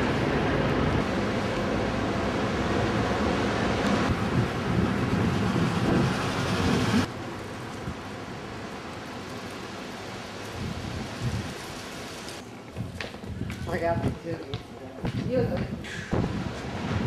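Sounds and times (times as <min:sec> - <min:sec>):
street noise rumble and hiss: 0:00.0 - 0:17.0.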